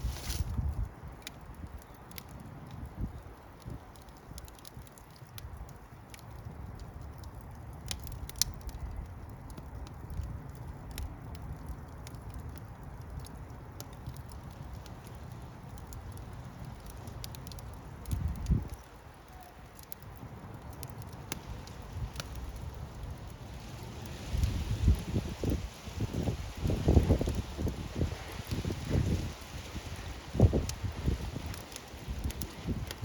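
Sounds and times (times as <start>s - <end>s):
low rumble of flames: 0.0s - 33.0s
wood fire crackling and popping: 0.0s - 33.0s.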